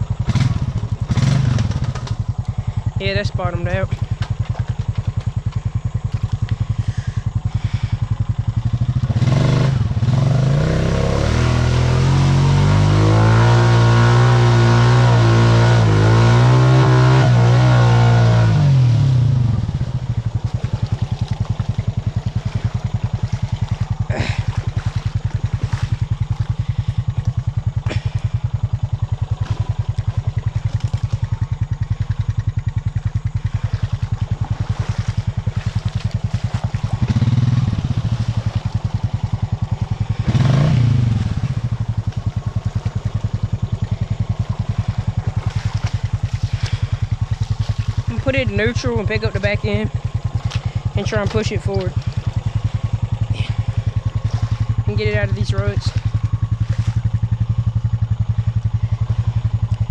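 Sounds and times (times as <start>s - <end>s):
atv engine idling and revving: 0.0s - 59.9s.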